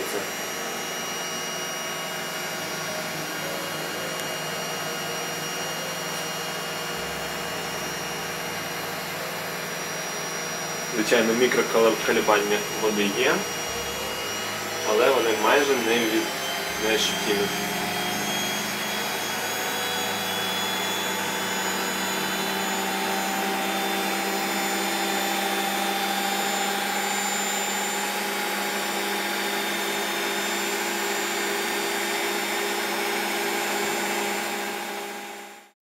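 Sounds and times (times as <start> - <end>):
washing machine spinning: 0.0 - 35.6.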